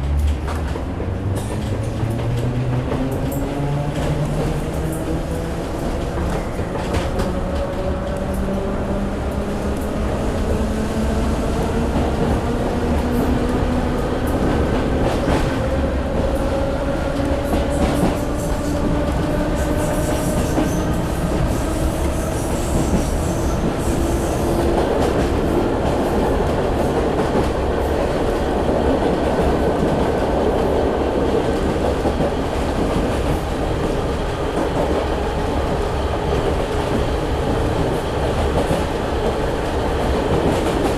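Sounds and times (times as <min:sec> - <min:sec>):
wheels rumbling on rails: 0:00.0 - 0:40.9.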